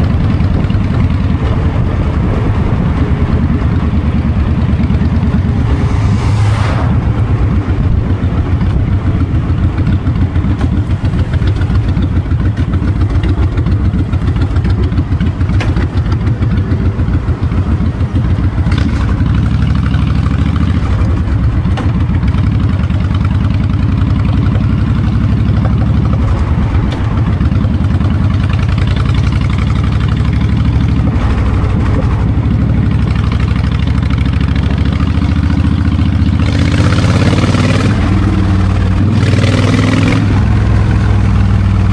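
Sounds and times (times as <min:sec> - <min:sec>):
wind noise on microphone: 0:00.0 - 0:19.3, 0:25.2 - 0:41.9
motorcycle engine rumbling: 0:00.0 - 0:41.9.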